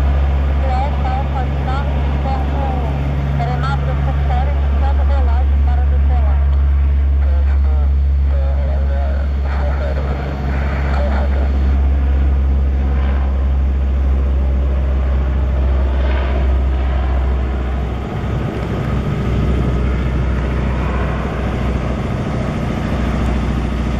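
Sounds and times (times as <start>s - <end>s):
turboprop aircraft taking off: 0.0s - 23.9s.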